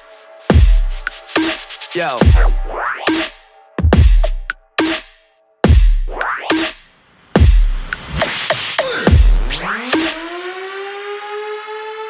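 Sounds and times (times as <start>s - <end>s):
dubstep track: 0.0s - 6.8s, 7.4s - 12.0s.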